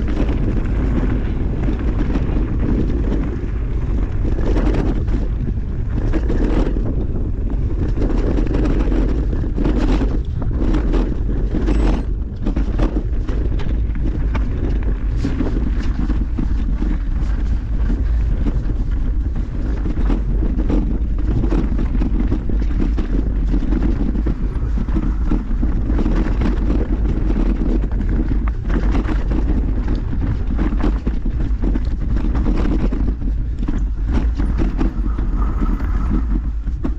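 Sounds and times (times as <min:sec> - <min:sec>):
bike knocking and rattling: 0:00.0 - 0:36.9
wind buffeting microphone: 0:00.0 - 0:36.9.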